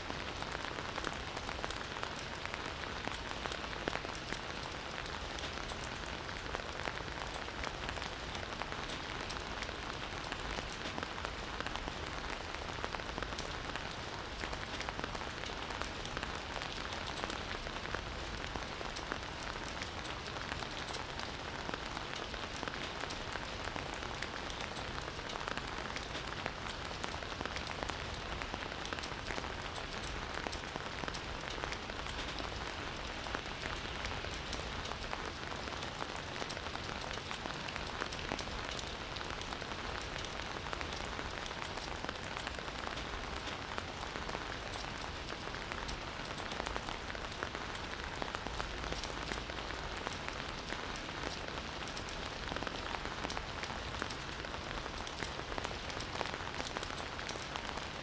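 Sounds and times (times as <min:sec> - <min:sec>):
campfire crackling: 0:00.1 - 0:58.0.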